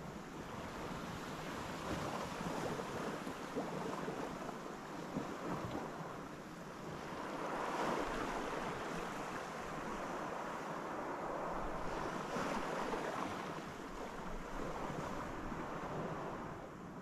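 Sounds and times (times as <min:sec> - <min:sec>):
small waves on sandy beach: 0:00.0 - 0:17.0.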